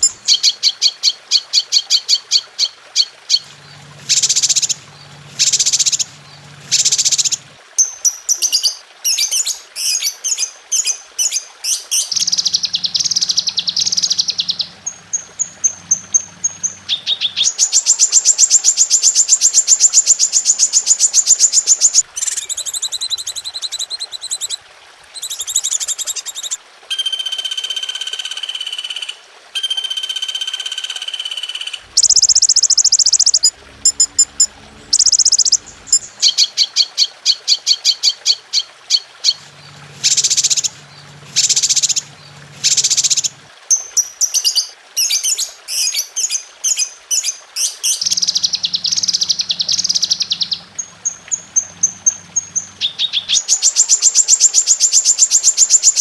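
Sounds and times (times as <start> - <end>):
bird chirps and high trills: 0.0 - 24.6, 25.2 - 56.0.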